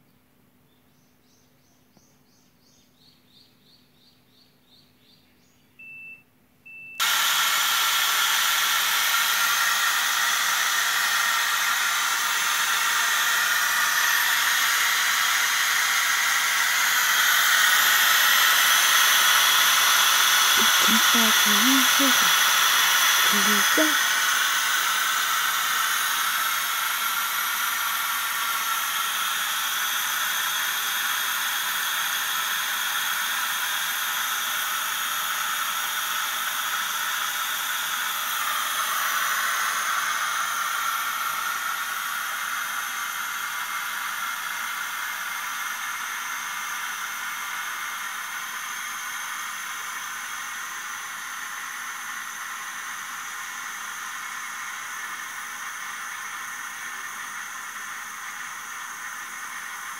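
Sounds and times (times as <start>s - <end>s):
rice cooker steam hissing: 7.0s - 59.9s.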